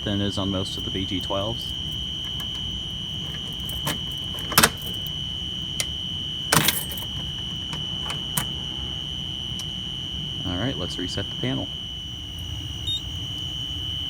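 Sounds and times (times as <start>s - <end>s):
fire alarm strobe clicks: 0.0s - 14.0s
steady high-pitched whine: 0.0s - 14.0s.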